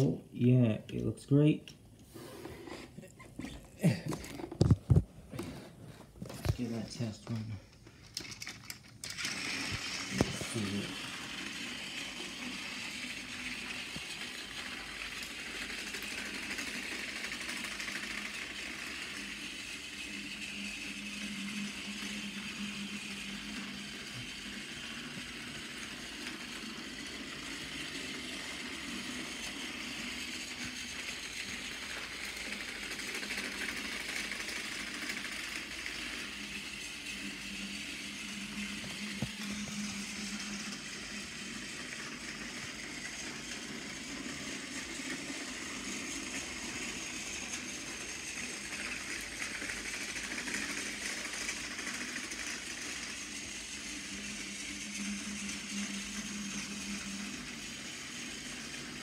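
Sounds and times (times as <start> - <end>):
toy train motor whirring: 6.4 - 59.0.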